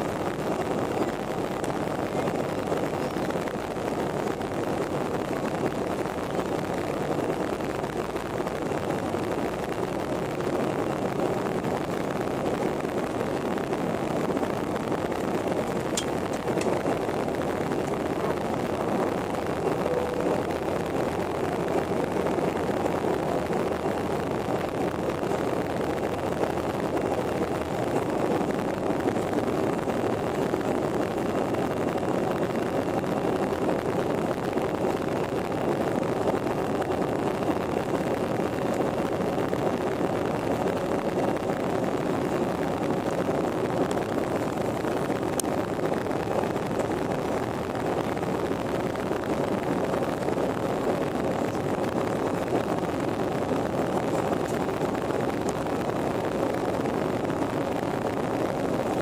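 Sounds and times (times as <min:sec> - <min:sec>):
airplane engine drone: 0:00.0 - 0:59.0.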